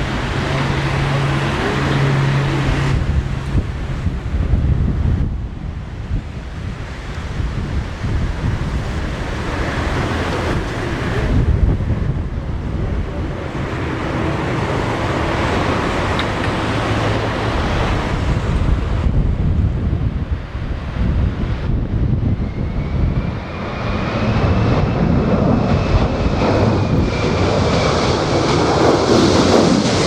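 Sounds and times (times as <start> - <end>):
jet engine noise: 0.0 - 30.0
wind buffeting microphone: 0.0 - 30.0.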